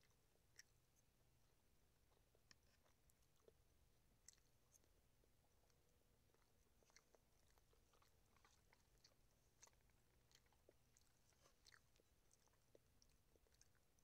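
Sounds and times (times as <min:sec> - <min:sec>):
chewing and eating: 0:00.0 - 0:14.0.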